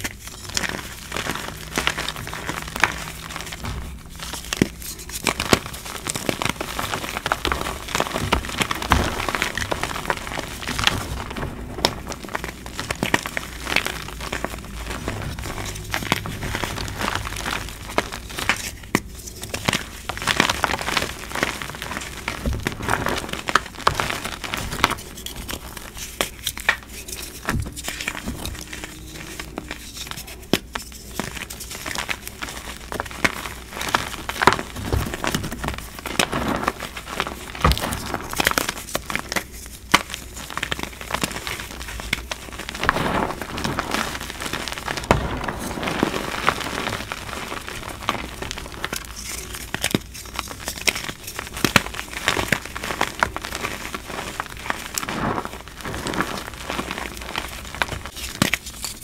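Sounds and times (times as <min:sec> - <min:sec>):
hands crushing chalk: 0:00.0 - 0:59.0.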